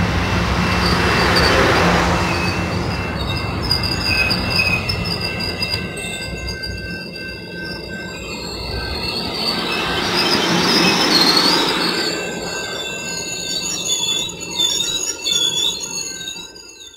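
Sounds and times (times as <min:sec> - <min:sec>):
train cars rumbling past: 0:00.0 - 0:16.8
high-pitched wheel squeal: 0:00.0 - 0:16.9.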